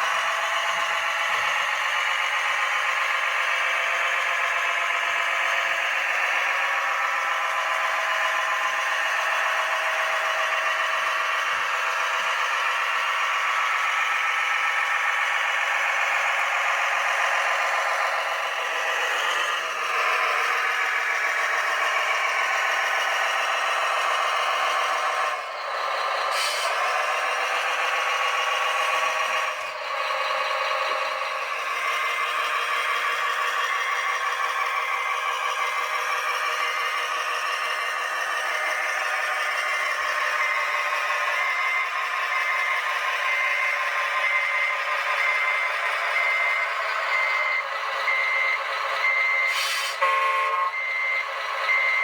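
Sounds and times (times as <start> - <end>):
toy truck electric motor whine: 0.0 - 52.0.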